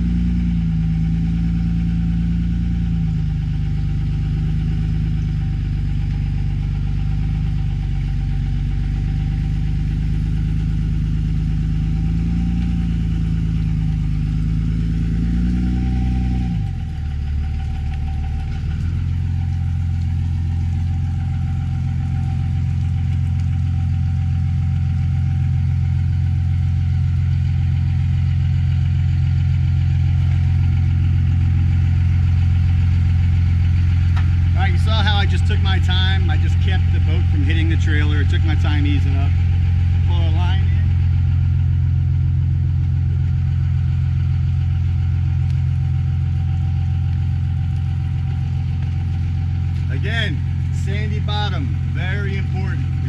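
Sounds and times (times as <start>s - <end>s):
pickup truck engine running: 0.0s - 53.0s.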